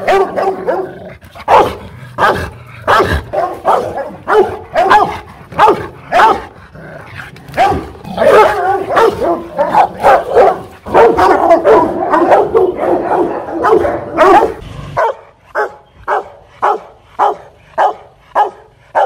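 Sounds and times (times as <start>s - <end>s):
dog barking hard: 0.0s - 19.0s.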